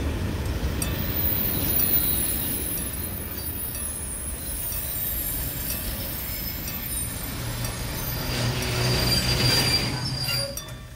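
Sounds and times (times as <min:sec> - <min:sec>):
freight train wheels rumbling: 0:00.0 - 0:10.9.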